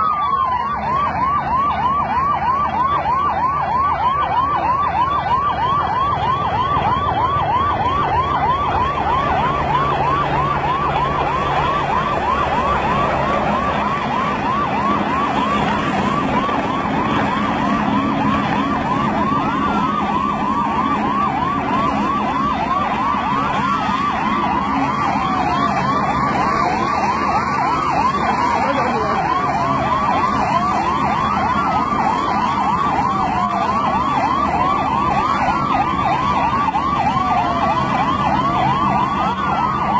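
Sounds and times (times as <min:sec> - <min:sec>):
siren on fast yelp: 0:00.0 - 0:39.9
siren with slow falling sweeps: 0:00.0 - 0:39.9.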